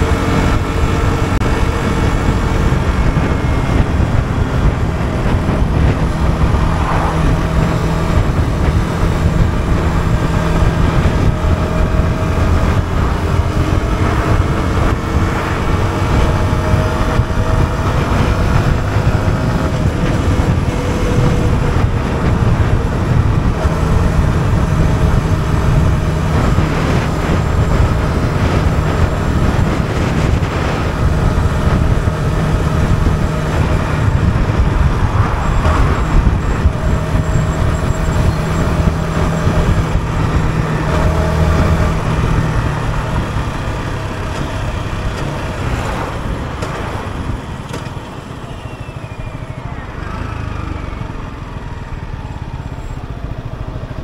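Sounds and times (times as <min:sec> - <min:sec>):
motorcycle engine running: 0:00.0 - 0:54.0
traffic noise: 0:00.0 - 0:54.0.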